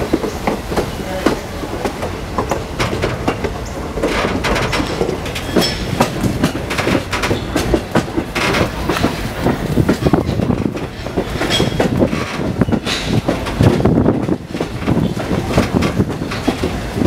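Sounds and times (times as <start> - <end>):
train low rumble: 0.0 - 17.0
train wheels clattering: 0.0 - 17.0.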